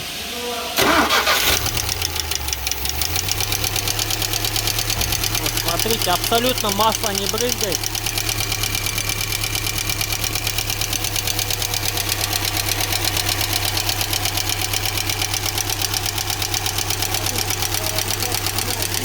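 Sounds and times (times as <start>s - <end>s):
engine idling with valve clatter: 0.8s - 19.0s.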